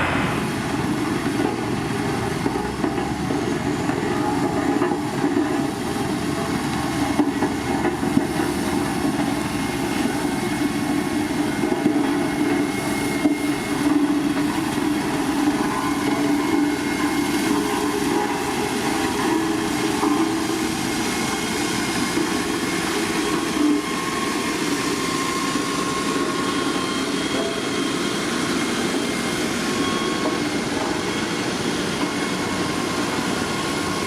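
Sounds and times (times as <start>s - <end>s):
diesel engine humming under load: 0.0s - 34.0s.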